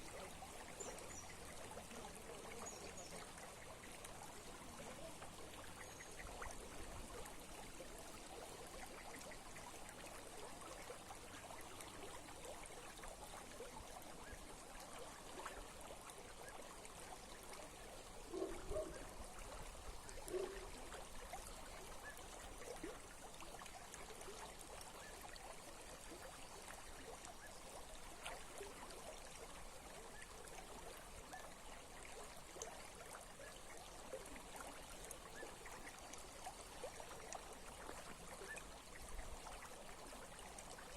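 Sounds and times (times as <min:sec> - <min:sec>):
small brook running: 0:00.0 - 0:40.9.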